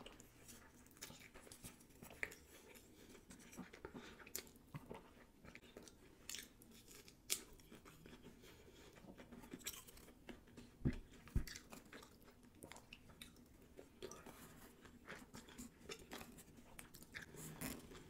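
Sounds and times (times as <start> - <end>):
wet chewing sounds: 0.0 - 18.0.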